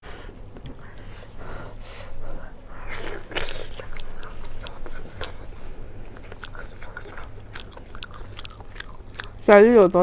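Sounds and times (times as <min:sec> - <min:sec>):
person chewing crunchy food: 0:00.0 - 0:09.5.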